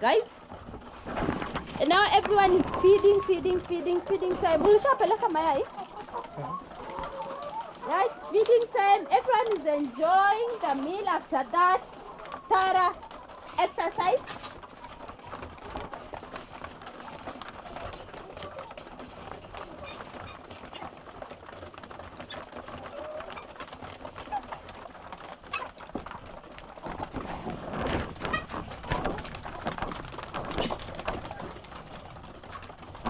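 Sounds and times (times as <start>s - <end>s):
hens clucking: 0.0s - 33.0s.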